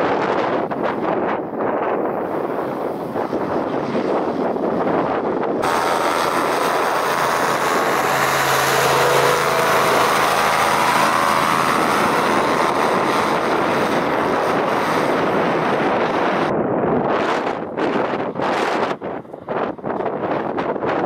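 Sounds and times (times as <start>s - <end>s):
hovercraft engine drone: 0.0s - 21.0s.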